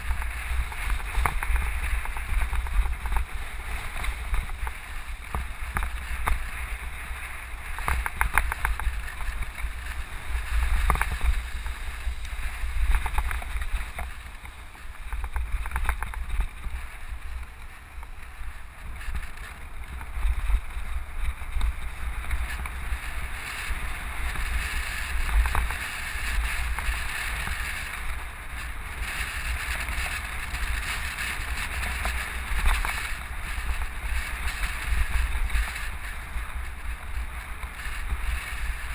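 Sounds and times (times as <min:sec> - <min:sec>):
vehicle rumbling on dirt road: 0:00.0 - 0:38.9.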